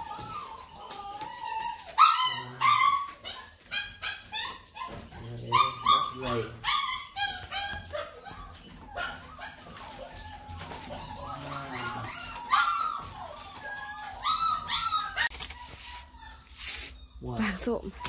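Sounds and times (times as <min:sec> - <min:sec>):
dog whining and yelping: 0:00.0 - 0:18.0.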